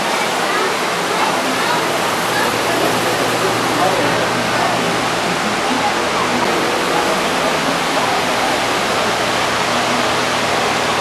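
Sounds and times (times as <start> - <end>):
large fans rushing: 0.0 - 11.0.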